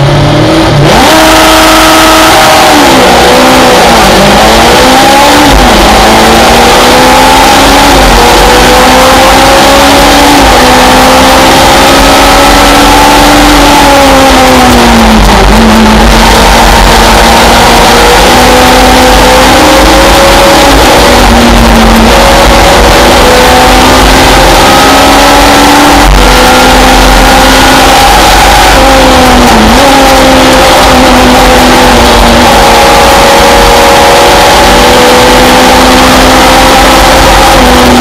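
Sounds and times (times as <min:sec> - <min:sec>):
race car engine running hard: 0:00.0 - 0:38.0.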